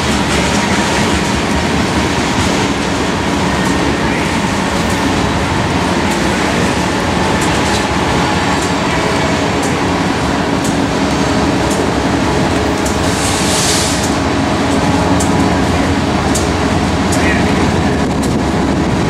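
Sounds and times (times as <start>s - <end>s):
diesel locomotive engines: 0.0s - 19.0s
freight train rumbling past: 0.0s - 19.0s
steel wheels clicking over rails: 0.0s - 19.0s.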